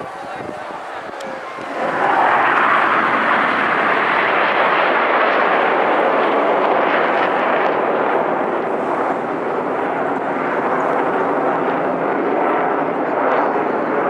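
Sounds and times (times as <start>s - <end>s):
aircraft flying past: 0.0s - 13.0s.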